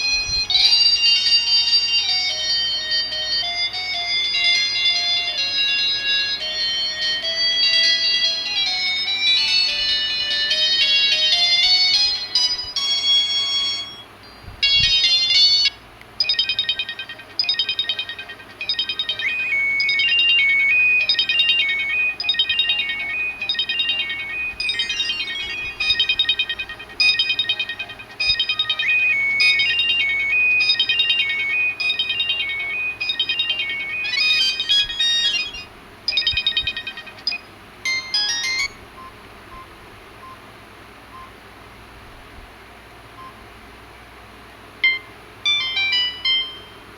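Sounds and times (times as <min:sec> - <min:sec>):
phone ringtone beeping melody: 0:00.0 - 0:39.1, 0:44.8 - 0:46.9.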